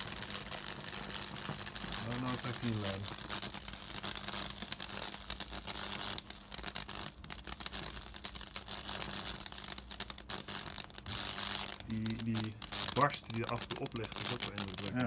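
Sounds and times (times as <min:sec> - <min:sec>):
sizzling crackle of sparks: 0:00.0 - 0:15.0.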